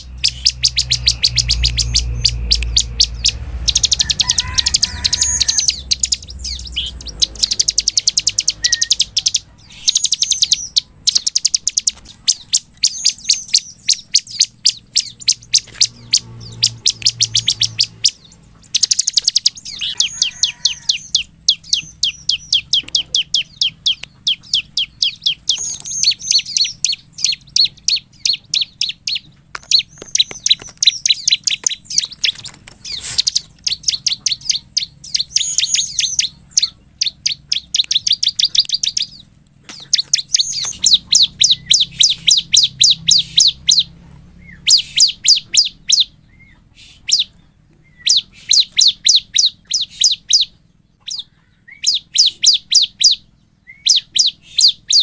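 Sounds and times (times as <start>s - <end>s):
bird singing sharp high notes: 0.0s - 55.0s.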